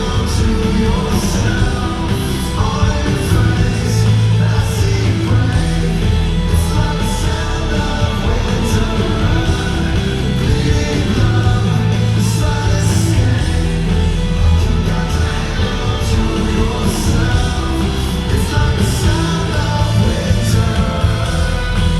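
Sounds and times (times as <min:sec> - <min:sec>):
lead singer singing: 0:00.0 - 0:21.9
rock band playing: 0:00.0 - 0:21.9.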